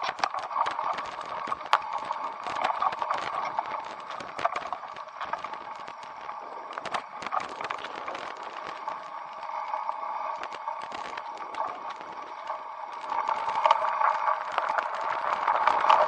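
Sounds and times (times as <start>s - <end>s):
steady mid-pitched hum: 0.0s - 16.0s.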